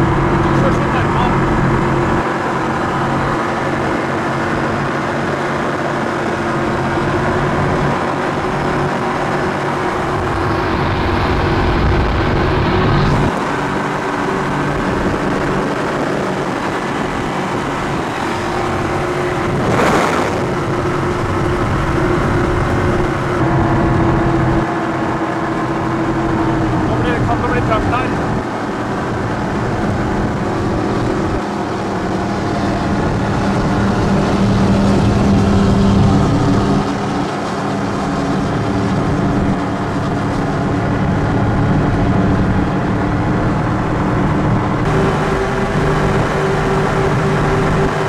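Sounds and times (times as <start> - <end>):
powerboat engine drone: 0.0 - 48.0
rushing wind and water: 0.0 - 48.0.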